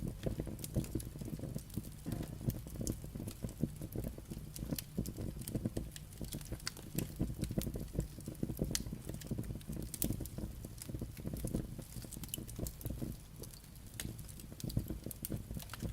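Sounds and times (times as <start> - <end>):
fire crackling and popping: 0.0 - 15.9
low rumble of burning logs: 0.0 - 15.9.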